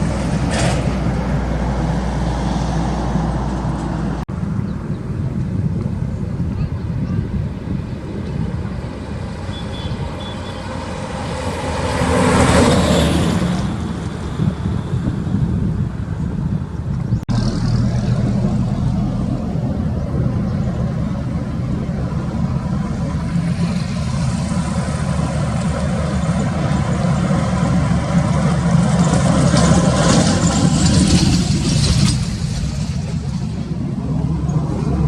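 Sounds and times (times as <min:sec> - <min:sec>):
heavy truck engine rumble: 0:00.0 - 0:35.0
tyre and road noise: 0:00.0 - 0:35.0.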